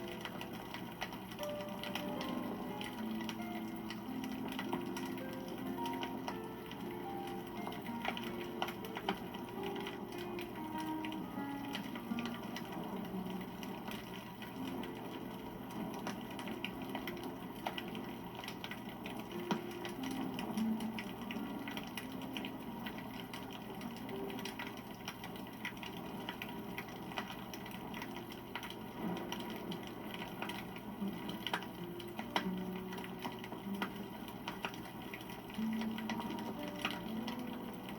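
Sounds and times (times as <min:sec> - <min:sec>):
sharp snaps and pops: 0:00.0 - 0:37.9
wood fire crackling: 0:00.0 - 0:37.9.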